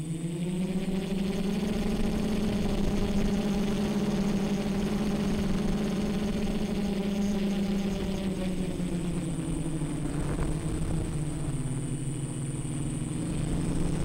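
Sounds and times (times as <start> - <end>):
quadcopter motors humming: 0.0 - 14.0.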